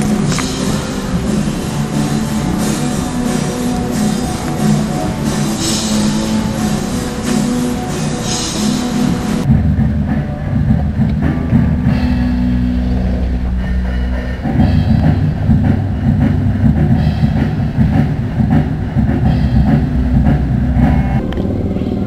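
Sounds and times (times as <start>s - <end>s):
bass-heavy music with drum beat: 0.0s - 22.0s.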